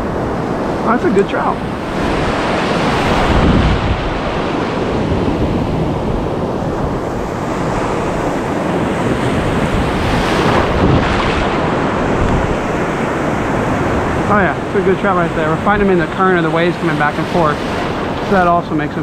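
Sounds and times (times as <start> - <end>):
surf breaking and washing: 0.0 - 19.0
wind buffeting microphone: 0.0 - 19.0.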